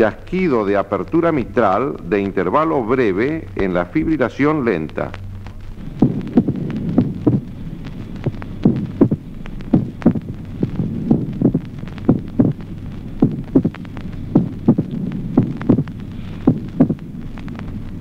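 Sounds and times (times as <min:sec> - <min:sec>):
irregular heartbeats: 0:00.0 - 0:18.0
low hum: 0:00.0 - 0:18.0.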